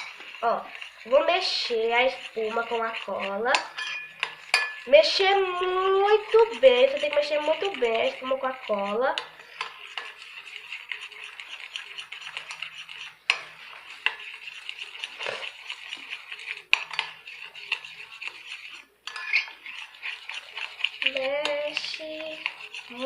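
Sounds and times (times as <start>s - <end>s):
utensil scraping a bowl: 0.0s - 23.0s.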